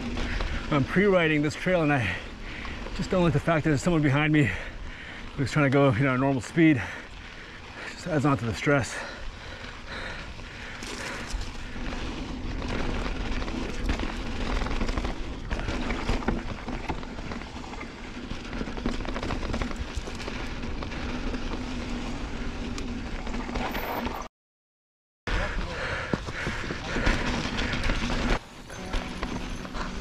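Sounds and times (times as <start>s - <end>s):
bike rattling over bumps: 0.0s - 24.3s, 25.3s - 30.0s
bike tyres on dirt: 0.0s - 24.3s, 25.3s - 30.0s.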